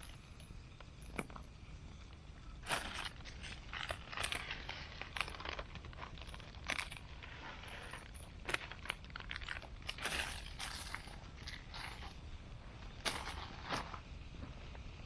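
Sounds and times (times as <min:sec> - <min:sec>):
rustling and scraping: 0:00.8 - 0:14.9.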